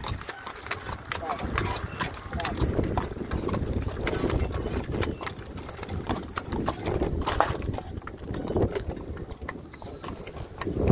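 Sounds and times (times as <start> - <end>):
hooves clip-clopping on road: 0.0 - 10.9.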